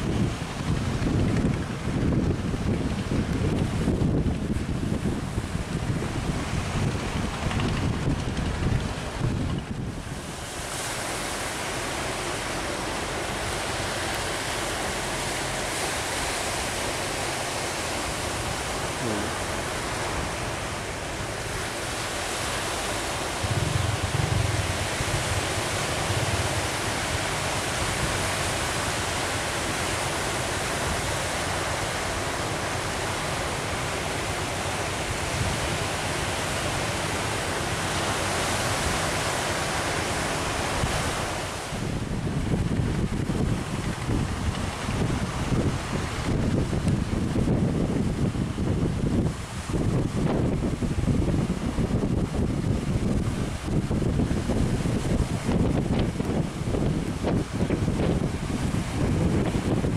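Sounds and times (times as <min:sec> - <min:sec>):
ocean surf breaking: 0:00.0 - 0:59.9
wind on microphone: 0:00.0 - 0:59.9.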